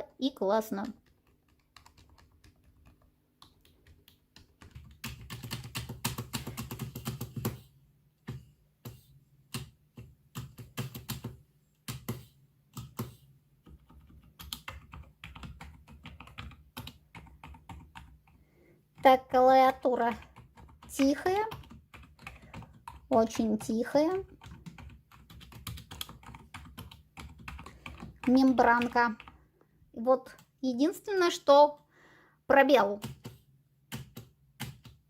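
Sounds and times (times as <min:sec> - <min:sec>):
keyboard typing: 0:00.7 - 0:29.5, 0:33.0 - 0:35.0.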